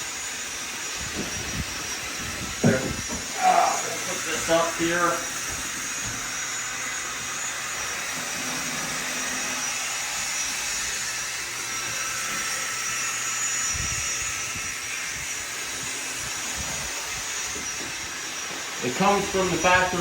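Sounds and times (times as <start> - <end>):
turbine rush and whine: 0.0 - 20.0.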